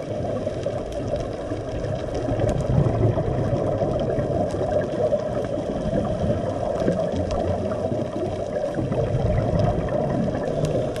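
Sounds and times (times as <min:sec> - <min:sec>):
faint clicks: 0:00.0 - 0:11.0
muffled rumble of moving water: 0:00.0 - 0:11.0.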